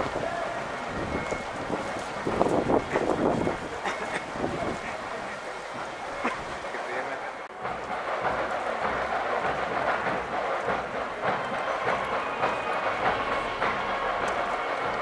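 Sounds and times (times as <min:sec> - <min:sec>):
crowd talking and moving: 0:00.0 - 0:15.0.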